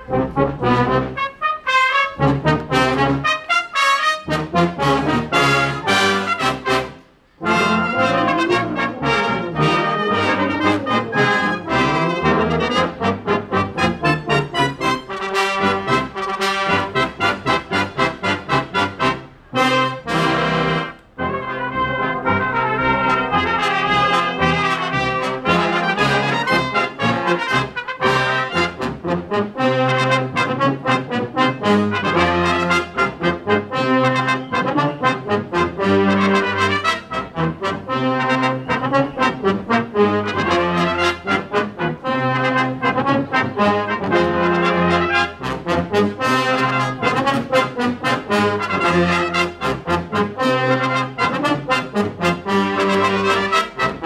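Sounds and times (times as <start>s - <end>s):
brass band playing a march: 0.0s - 54.0s.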